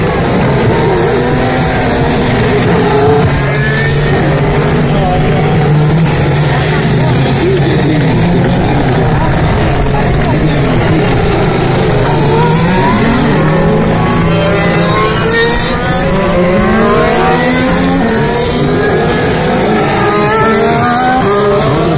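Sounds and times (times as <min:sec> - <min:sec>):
racing car engines passing: 0:00.0 - 0:21.9.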